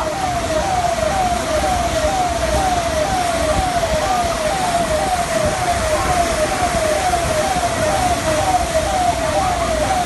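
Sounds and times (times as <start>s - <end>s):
siren with falling tone: 0.0s - 10.0s.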